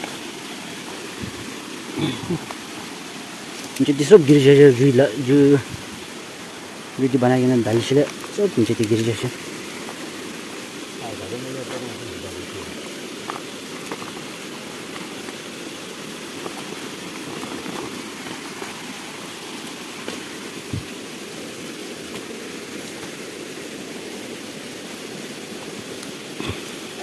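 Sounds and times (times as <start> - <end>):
rushing running water: 0.0 - 27.0.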